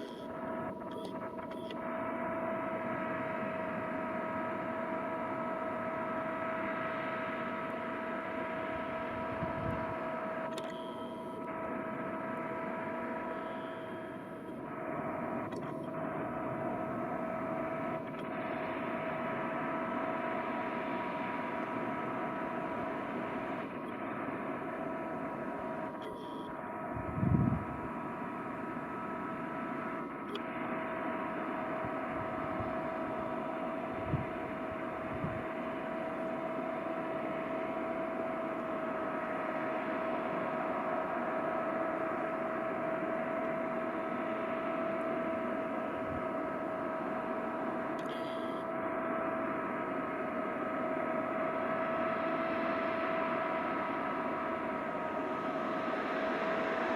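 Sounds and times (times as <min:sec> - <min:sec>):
high whine: 0:00.0 - 0:56.9.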